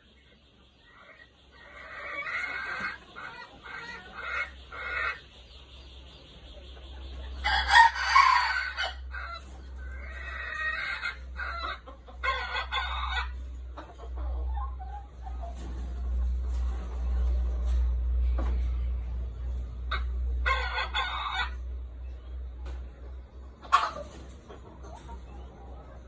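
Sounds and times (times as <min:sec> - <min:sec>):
roosters crowing and clucking: 0:00.0 - 0:26.0.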